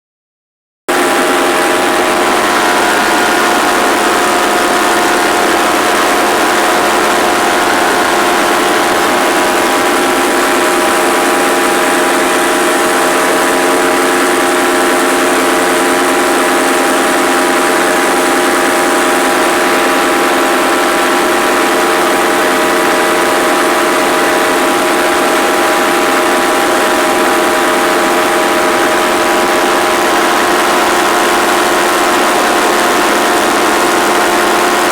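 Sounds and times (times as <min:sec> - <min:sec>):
paramotor engine and propeller: 0:00.9 - 0:34.9.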